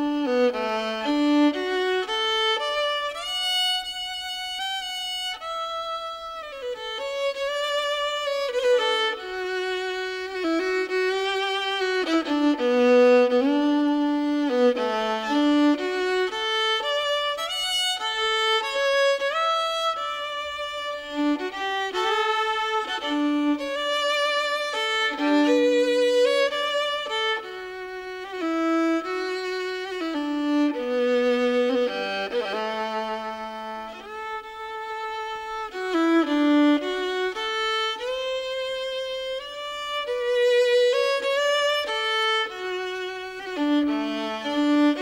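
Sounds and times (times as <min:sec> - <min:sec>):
violin melody with vibrato: 0:00.0 - 0:45.0.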